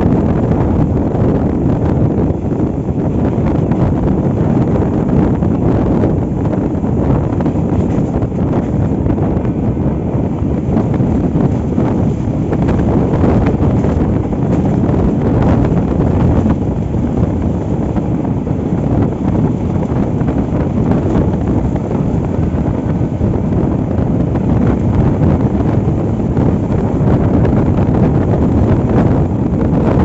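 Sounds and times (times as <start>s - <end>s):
train rumbling: 0.0s - 30.0s
wind on microphone: 0.0s - 30.0s.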